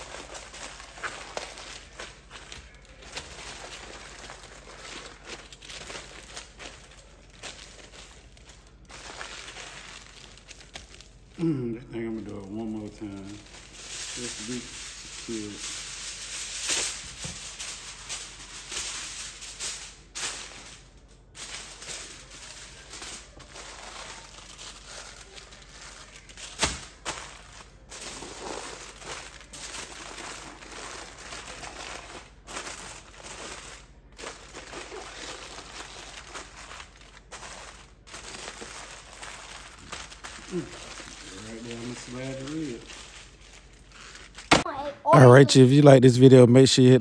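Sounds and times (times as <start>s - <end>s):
aluminium foil crinkling: 0.0s - 44.6s.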